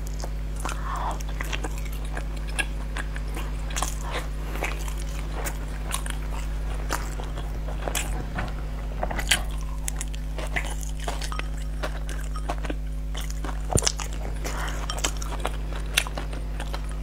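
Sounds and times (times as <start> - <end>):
biting and chewing food: 0.0 - 17.0
low electrical hum: 0.0 - 17.0.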